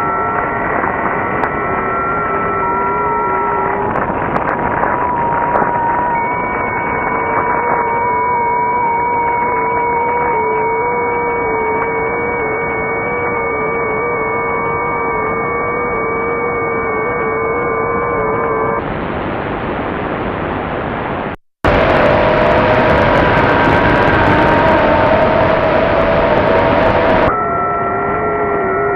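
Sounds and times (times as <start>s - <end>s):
whistling radio tones: 0.0s - 18.9s, 21.6s - 28.9s.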